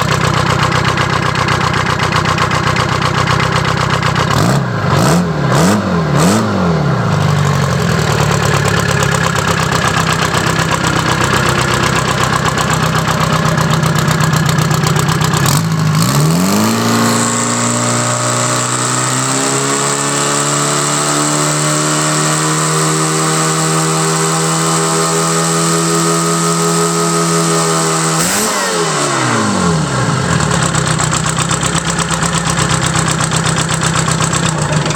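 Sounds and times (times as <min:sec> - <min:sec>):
diesel engine idling and revving: 0:00.0 - 0:34.9.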